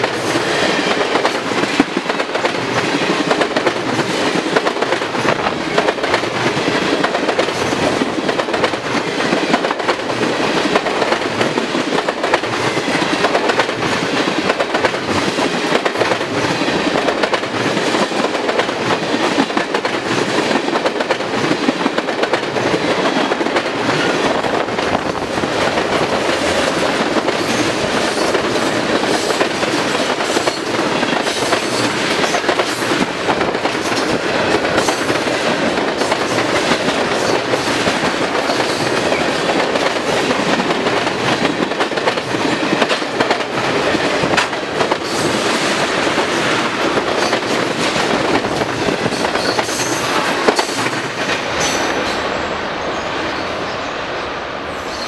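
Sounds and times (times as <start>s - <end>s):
train wheels clicking on rails: 0.0s - 53.6s.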